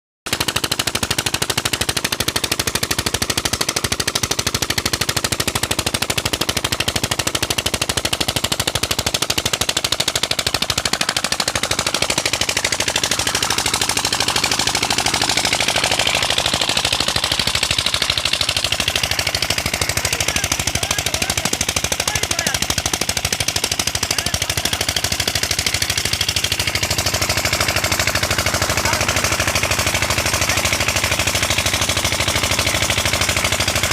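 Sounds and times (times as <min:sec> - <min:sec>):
diesel engine chugging: 0:00.3 - 0:33.9.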